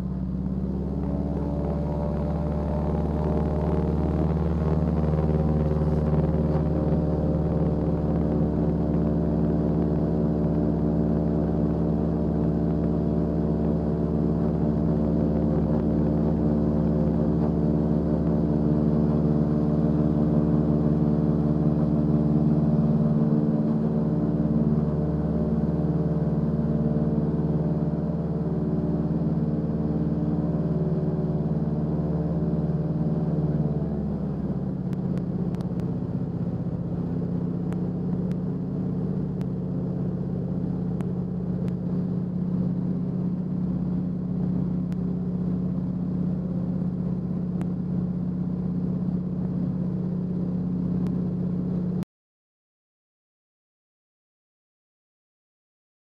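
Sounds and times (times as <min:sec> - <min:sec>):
plane engine and propeller drone: 0:00.0 - 0:52.0.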